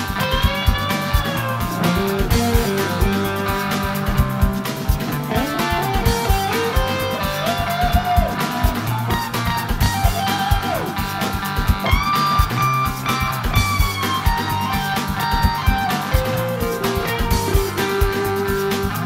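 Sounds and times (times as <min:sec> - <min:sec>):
bass line: 0:00.0 - 0:19.0
overdriven electric guitar lead: 0:00.0 - 0:19.0
second guitar part: 0:00.0 - 0:19.0
steady drum beat: 0:00.0 - 0:19.0.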